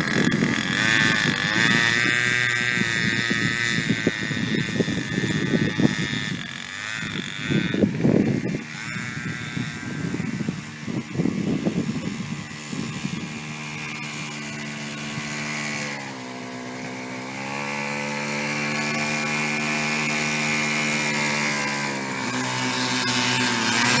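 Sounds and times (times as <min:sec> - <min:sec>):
small two-stroke engine running: 0:00.0 - 0:24.0.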